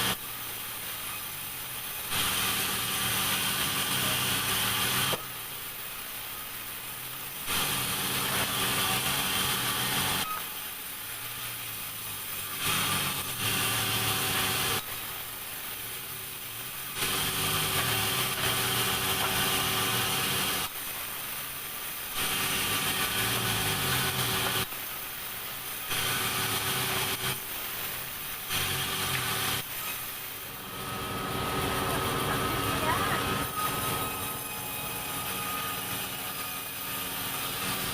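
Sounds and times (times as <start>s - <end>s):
sawmill saw cutting timber: 0.0s - 5.4s, 6.0s - 37.9s
machine hum: 7.4s - 37.9s.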